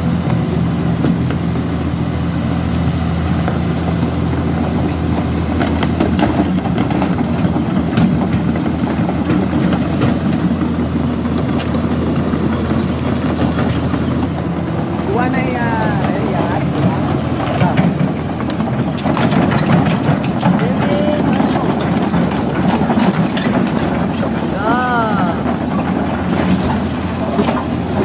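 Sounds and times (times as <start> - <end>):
excavator diesel engine running: 0.0 - 28.0
knocks and clanks: 4.7 - 14.5, 15.2 - 28.0.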